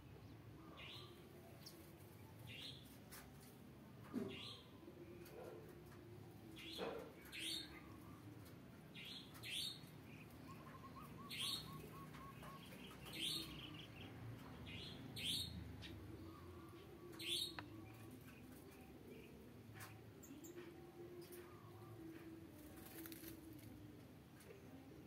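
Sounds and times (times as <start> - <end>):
small birds chirping: 4.2 - 24.8.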